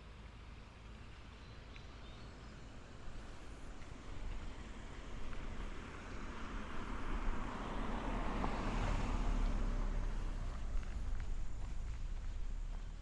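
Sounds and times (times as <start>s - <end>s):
car passing by: 2.3s - 13.0s.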